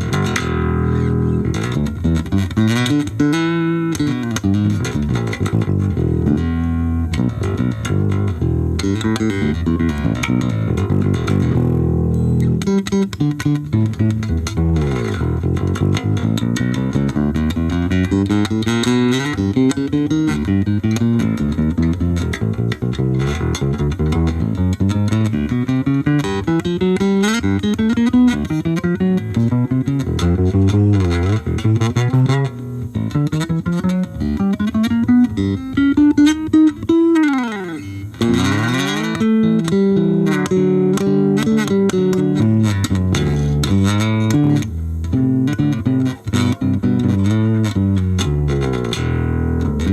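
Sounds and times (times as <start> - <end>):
electric bass plucking notes: 0.0 - 49.9.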